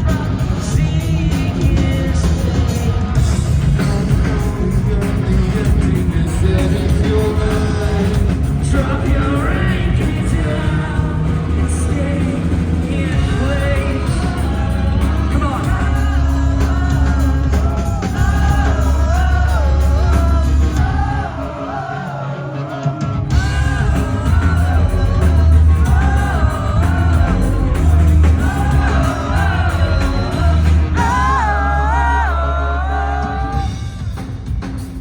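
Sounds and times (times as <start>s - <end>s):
person singing: 0.0s - 34.0s
heavy bass: 0.0s - 35.0s
live rock band playing: 0.0s - 35.0s.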